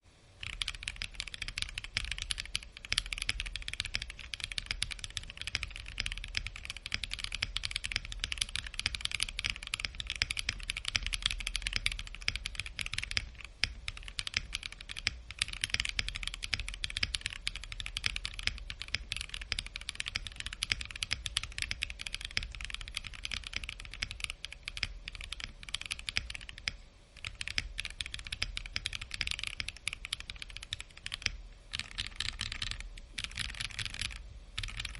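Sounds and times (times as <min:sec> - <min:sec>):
mechanical keyboard typing: 0:00.4 - 0:34.9.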